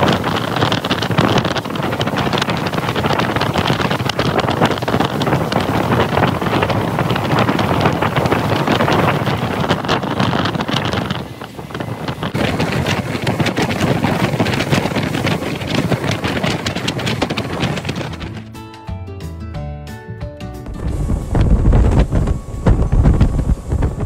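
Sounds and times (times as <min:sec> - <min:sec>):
rushing water: 0:00.0 - 0:18.4, 0:20.7 - 0:24.0
wind buffeting microphone: 0:00.0 - 0:18.5, 0:20.6 - 0:24.0
boat engine: 0:00.0 - 0:18.6, 0:20.6 - 0:24.0.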